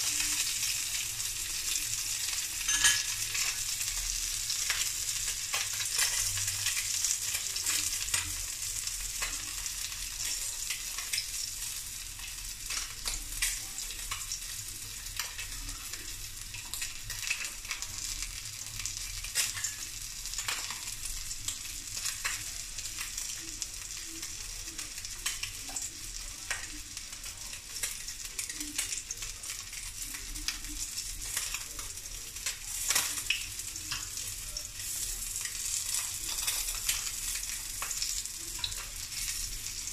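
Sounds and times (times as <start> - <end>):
hot oil sizzling: 0.0 - 39.9
oil crackling and popping: 0.0 - 39.9.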